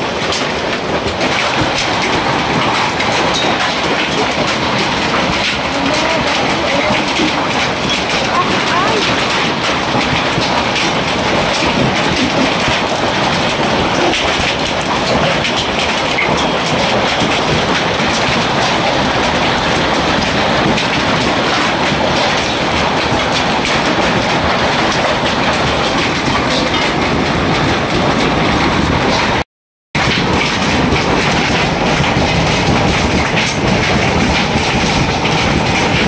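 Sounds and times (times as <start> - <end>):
hailstones pelting a roof: 0.0 - 29.4, 30.0 - 36.0.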